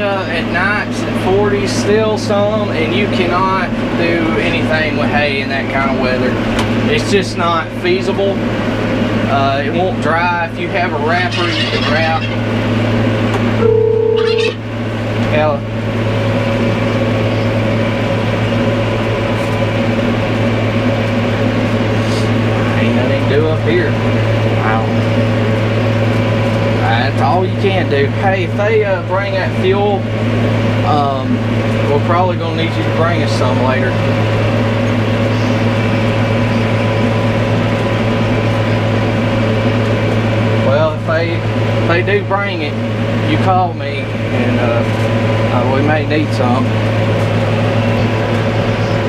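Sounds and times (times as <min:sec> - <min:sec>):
tractor engine droning: 0:00.0 - 0:49.0.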